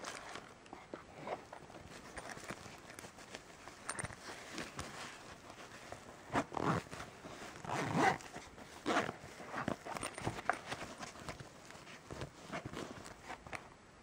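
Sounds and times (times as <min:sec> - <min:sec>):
fabric case rustling: 0:00.0 - 0:13.7
zipper being pulled: 0:01.1 - 0:13.4.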